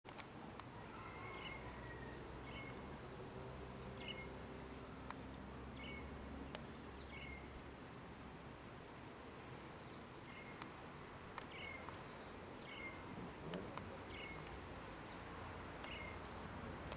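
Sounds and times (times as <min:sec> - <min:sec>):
low outdoor rumble: 0:00.2 - 0:16.9
small birds chirping and trilling: 0:00.6 - 0:16.9.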